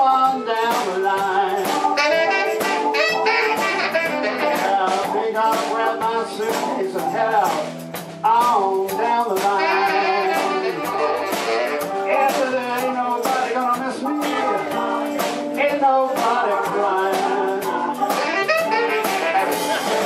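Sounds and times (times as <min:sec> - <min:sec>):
electric blues band playing: 0:00.0 - 0:20.0
harmonica lead with bending notes: 0:00.0 - 0:20.0.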